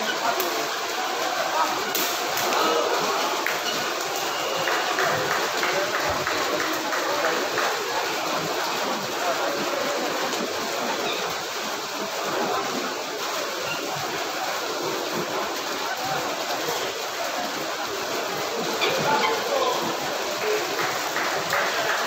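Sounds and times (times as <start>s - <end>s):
crowd talking: 0.0s - 22.0s.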